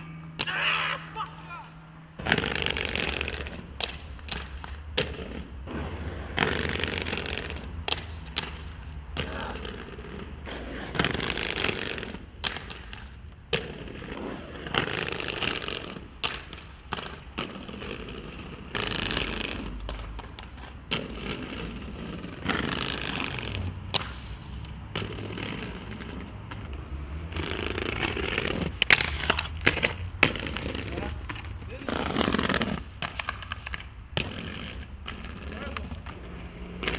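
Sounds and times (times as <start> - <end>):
inline skates rolling: 0.0 - 36.9
skates scraping on grinds: 0.0 - 36.9.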